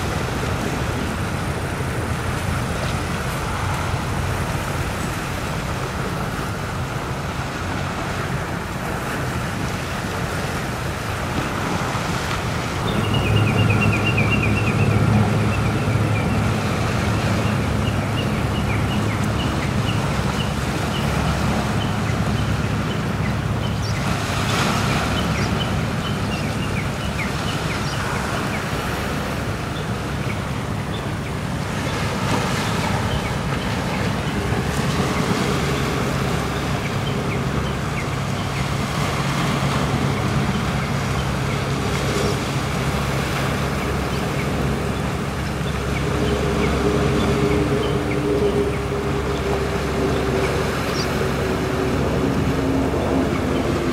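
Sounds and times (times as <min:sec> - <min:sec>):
ship engine drone: 0:00.0 - 0:53.9
waves washing: 0:00.0 - 0:53.9
wind on microphone: 0:00.0 - 0:53.9.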